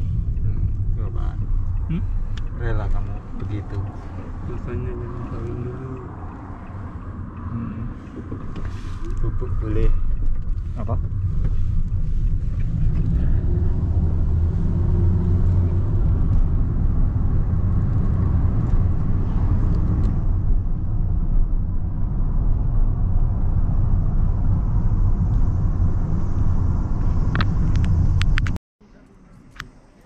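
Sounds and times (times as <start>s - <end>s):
minivan engine and road noise: 0.0s - 30.0s.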